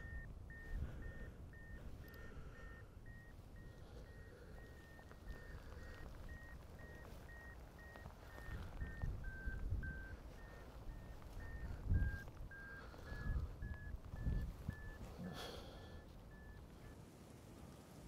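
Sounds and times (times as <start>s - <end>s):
receiver beeping steady tone: 0.0s - 17.0s.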